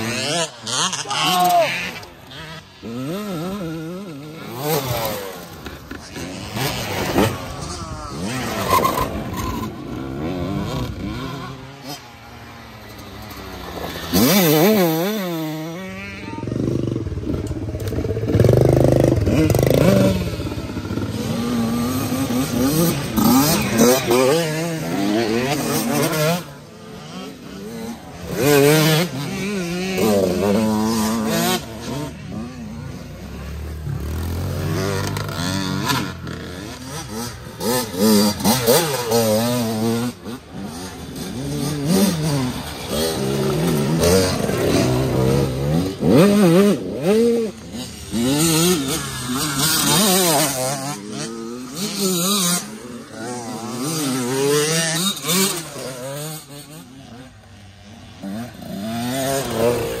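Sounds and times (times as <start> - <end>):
dirt bikes revving past: 0.0 - 60.0.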